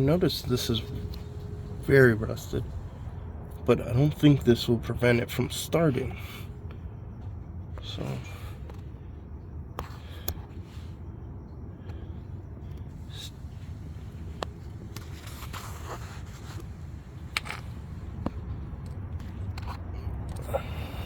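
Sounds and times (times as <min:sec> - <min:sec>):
low handling rumble: 0:00.0 - 0:21.0.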